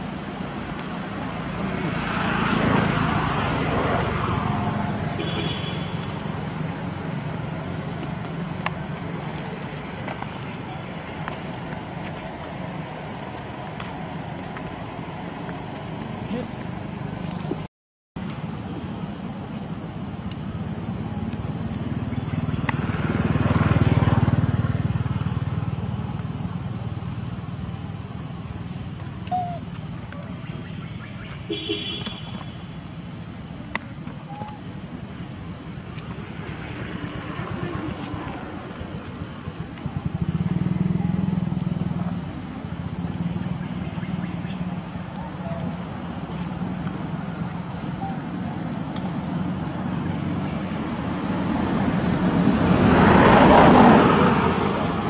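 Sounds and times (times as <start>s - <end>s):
high-pitched insect chorus: 0.0s - 55.0s
passing motor vehicle rumble: 0.0s - 55.0s.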